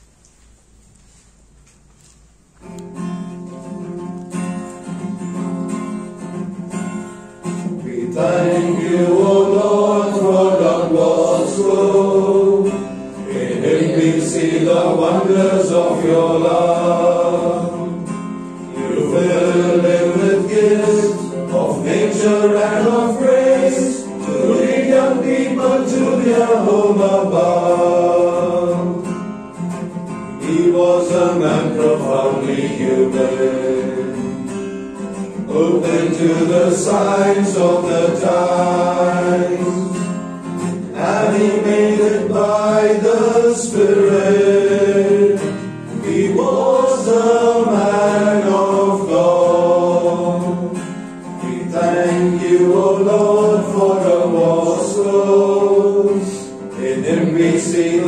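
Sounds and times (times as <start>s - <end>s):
acoustic guitar: 0.0s - 58.0s
voices singing a hymn: 7.6s - 58.0s.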